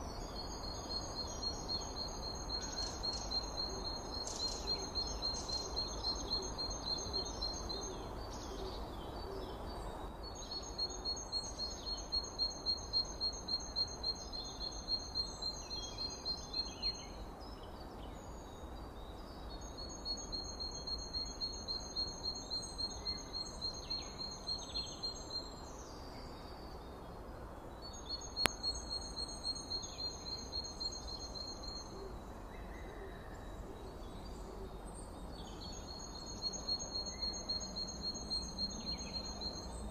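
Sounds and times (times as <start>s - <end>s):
steady background noise: 0.0s - 39.9s.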